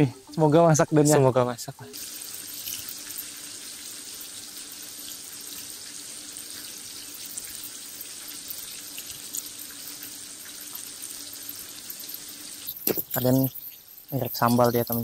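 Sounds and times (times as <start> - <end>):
chicken sizzling in a pan: 1.7 - 15.0.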